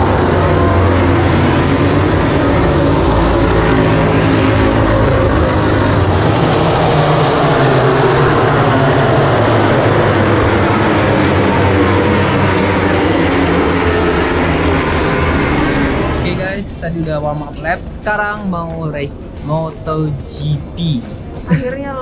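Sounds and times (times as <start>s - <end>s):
racing motorbikes passing: 0.0s - 22.0s.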